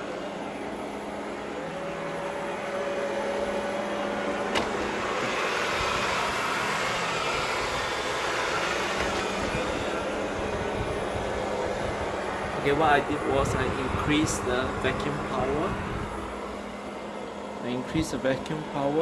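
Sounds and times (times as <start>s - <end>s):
robot vacuum whirring: 0.0s - 15.3s.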